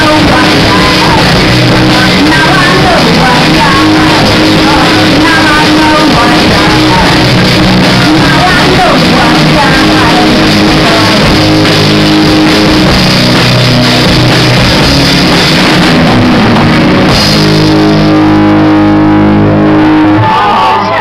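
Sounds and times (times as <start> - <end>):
drum kit: 0.0 - 20.9
bass guitar: 0.0 - 21.0
electric guitars: 0.0 - 21.0.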